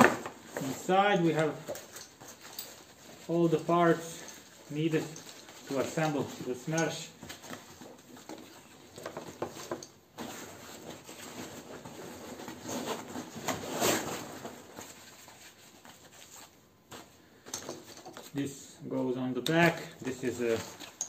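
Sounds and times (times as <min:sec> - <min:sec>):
fabric straps rustling and scraping: 0:00.0 - 0:18.6, 0:19.6 - 0:21.0.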